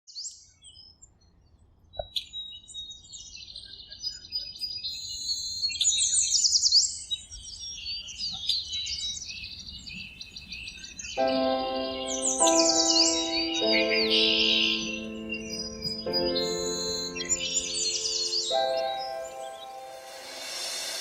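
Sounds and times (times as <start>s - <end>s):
birds chirping and trilling: 2.1s - 21.0s.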